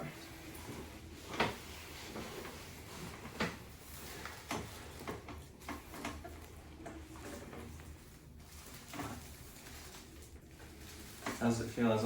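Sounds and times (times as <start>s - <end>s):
rustling: 0.4s - 12.0s.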